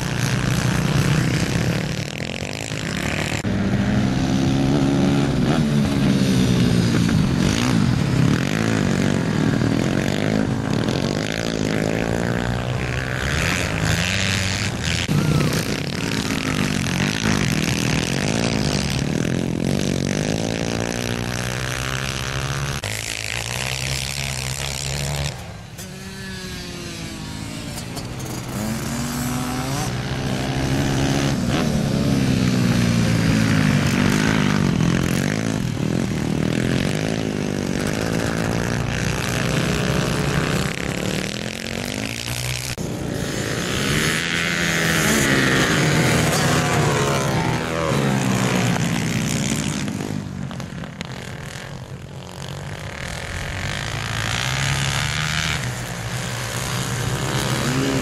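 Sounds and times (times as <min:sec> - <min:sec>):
pit bike engine revving: 0:00.0 - 0:58.0.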